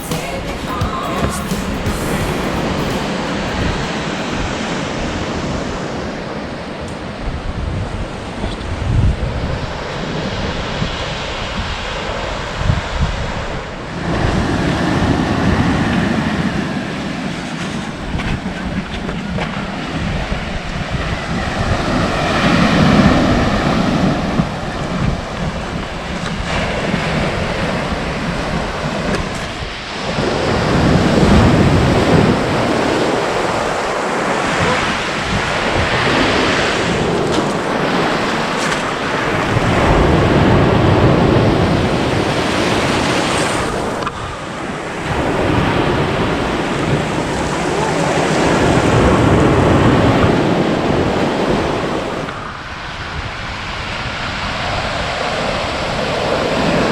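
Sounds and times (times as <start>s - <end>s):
ocean surf breaking: 0.0s - 8.5s, 13.2s - 56.9s
wind buffeting microphone: 3.4s - 56.9s.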